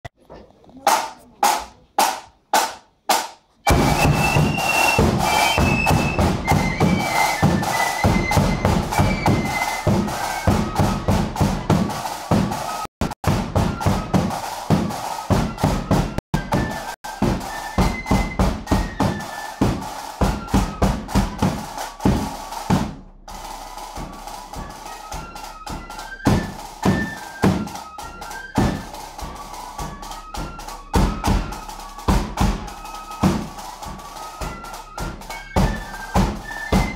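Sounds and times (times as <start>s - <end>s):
rapid side drum strokes: 0.9s - 36.9s
flutes playing melody: 3.6s - 36.9s
bass drum: 3.7s - 27.8s, 28.5s - 36.9s.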